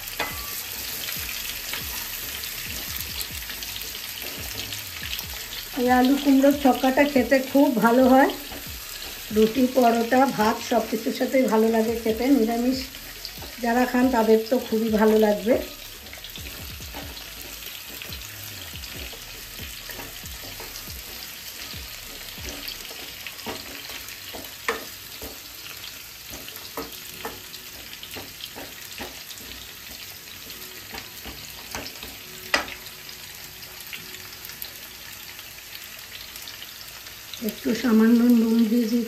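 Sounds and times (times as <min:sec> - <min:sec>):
spatula scraping and knocking pan: 0:00.0 - 0:32.8
vegetables sizzling in oil: 0:00.0 - 0:39.0.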